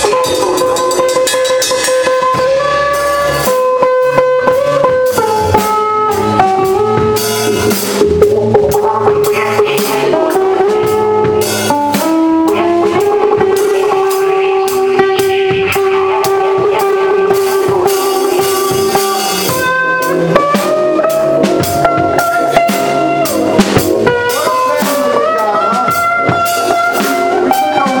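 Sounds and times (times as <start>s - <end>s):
drum kit: 0.0s - 28.0s
guitar playing: 0.0s - 28.0s
melody of long held notes: 0.0s - 28.0s.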